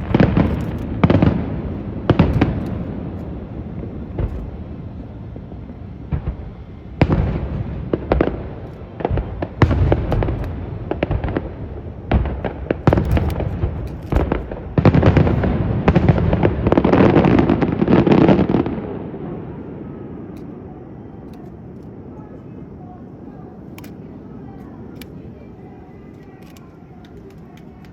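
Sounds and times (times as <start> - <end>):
fireworks crackle: 0.0 - 22.3, 23.3 - 27.9
fireworks bursting with sharp bangs: 0.0 - 27.9.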